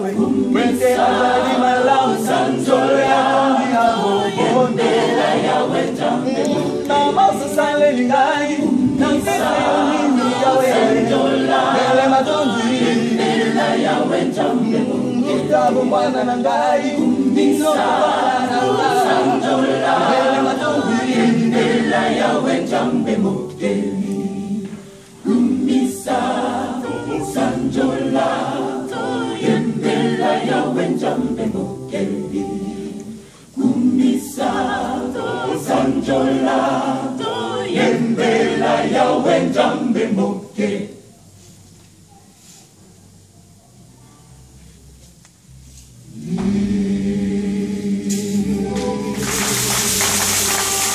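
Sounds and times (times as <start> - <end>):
mixed choir singing a cappella: 0.0 - 41.6, 45.7 - 50.9.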